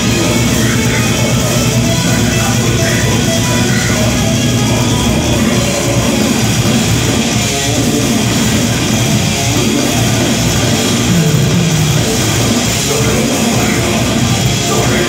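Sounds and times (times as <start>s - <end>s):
distorted electric guitars: 0.0s - 15.0s
drum kit: 0.0s - 15.0s
heavy metal band playing live: 0.0s - 15.0s.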